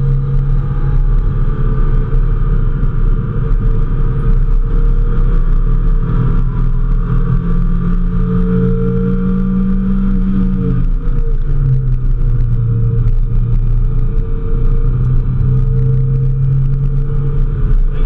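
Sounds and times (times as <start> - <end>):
car engine from inside cabin: 0.0 - 18.0
road noise: 0.0 - 18.0.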